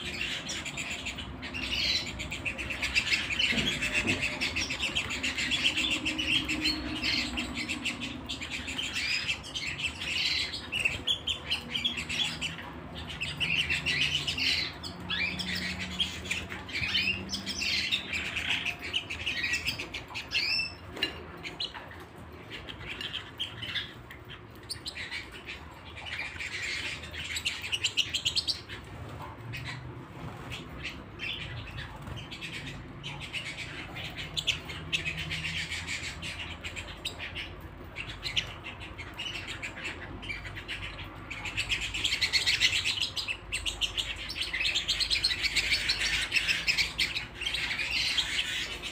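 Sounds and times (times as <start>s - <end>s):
canary singing trills and chirps: 0.0s - 48.9s.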